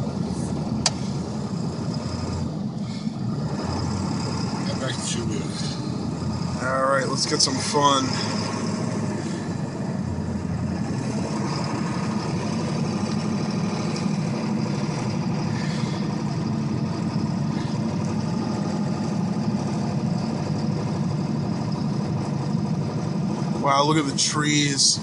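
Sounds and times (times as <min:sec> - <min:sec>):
pickup truck engine droning: 0:00.0 - 0:25.0.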